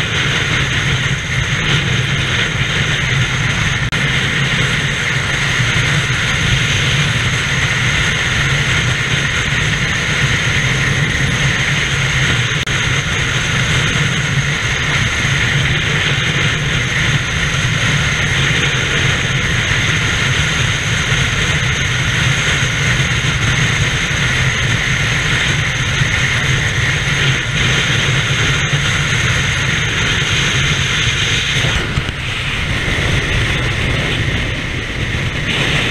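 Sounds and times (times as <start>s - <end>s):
freeway traffic roar: 0.0s - 35.9s
wind rushing over microphone: 0.0s - 35.9s.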